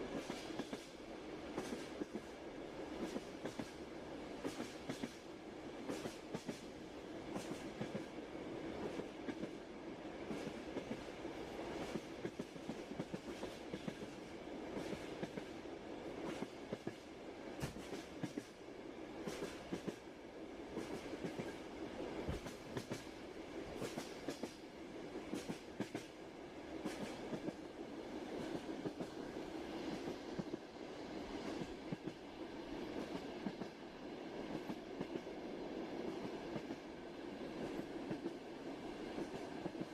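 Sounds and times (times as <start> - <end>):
passenger train rumbling: 0.0 - 39.9.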